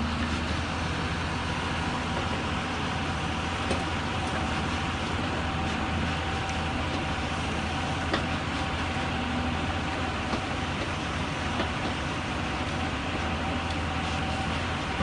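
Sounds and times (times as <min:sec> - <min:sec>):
excavator diesel engine running: 0:00.0 - 0:15.0
thin steady whine: 0:00.0 - 0:15.0.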